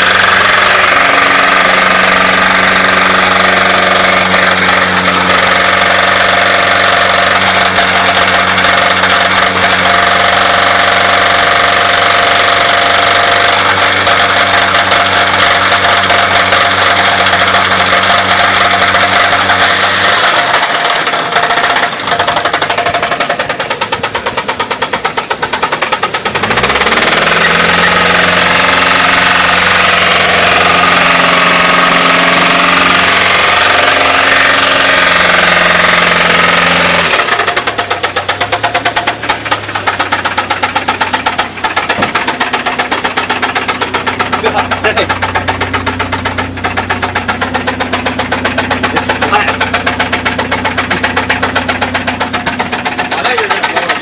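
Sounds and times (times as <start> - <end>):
car engine revving high: 0.0 - 23.6, 24.4 - 54.0
engine rod knocking: 0.0 - 54.0.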